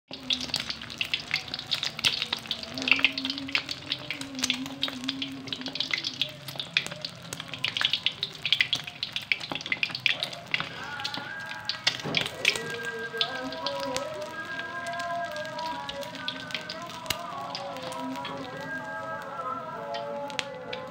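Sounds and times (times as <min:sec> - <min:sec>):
oil sizzling and popping: 0:00.1 - 0:20.9.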